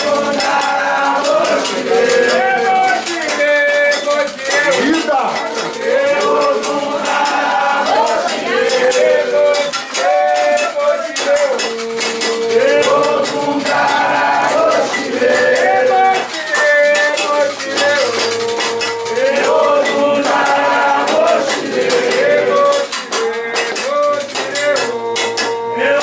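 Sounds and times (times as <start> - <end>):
rattle percussion: 0.0 - 26.0
voices singing a chant: 0.0 - 26.0.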